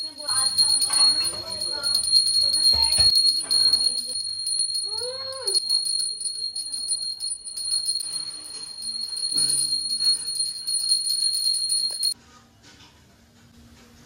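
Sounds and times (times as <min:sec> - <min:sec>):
hand bell ringing rapidly: 0:00.0 - 0:12.2.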